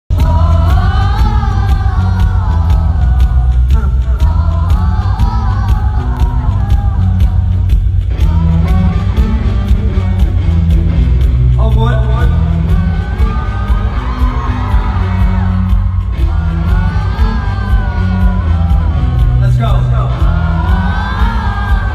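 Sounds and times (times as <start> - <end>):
person singing: 0.1 - 10.4, 11.6 - 21.9
amplified pop music: 0.1 - 21.9.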